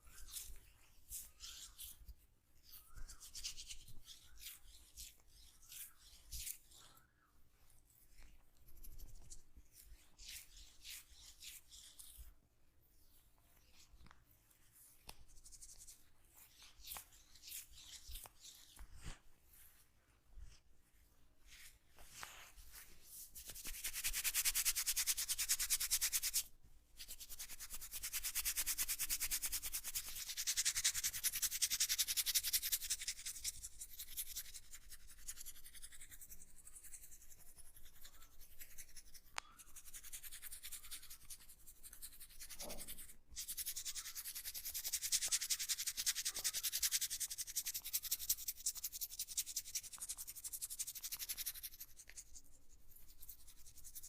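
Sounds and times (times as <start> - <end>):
fingertips rubbing through hair: 0.0 - 7.0, 7.8 - 12.3, 13.0 - 19.8, 21.5 - 54.0.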